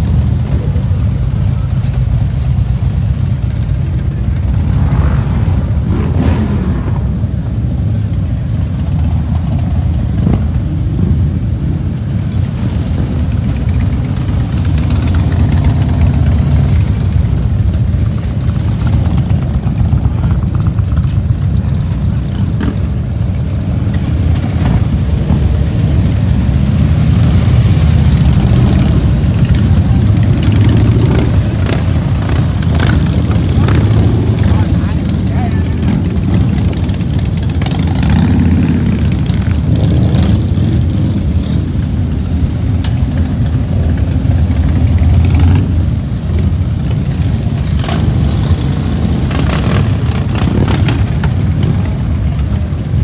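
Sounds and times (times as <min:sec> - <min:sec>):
motorcycle engines rumbling: 0:00.0 - 0:53.0.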